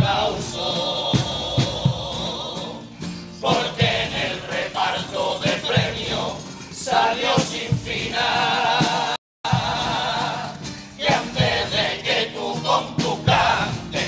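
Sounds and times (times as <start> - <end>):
low drum beats: 0.0 - 2.7, 3.4 - 6.4, 7.3 - 14.0
chorus singing in harmony: 0.0 - 14.0
guitar accompaniment: 0.0 - 14.0.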